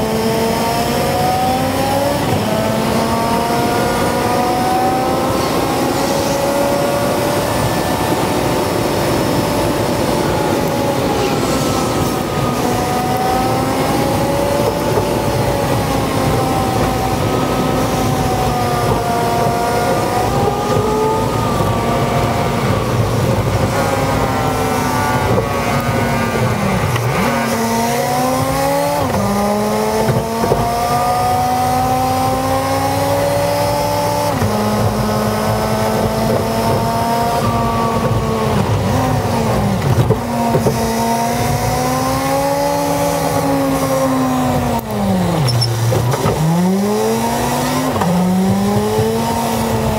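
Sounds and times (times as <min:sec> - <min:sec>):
bus engine sped up: 0:00.0 - 0:49.9.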